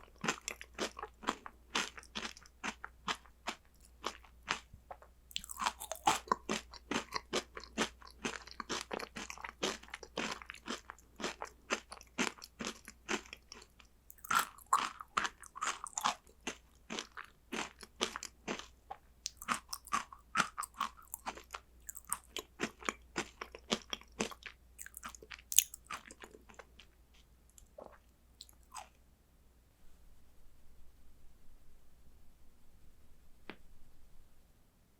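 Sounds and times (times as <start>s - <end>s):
chewing crunchy snacks: 0.0s - 29.0s.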